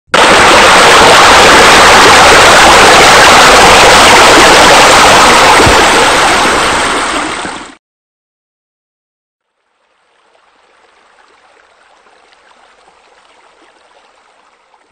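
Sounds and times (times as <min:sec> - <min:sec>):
running water: 0:00.1 - 0:07.8, 0:09.4 - 0:14.9.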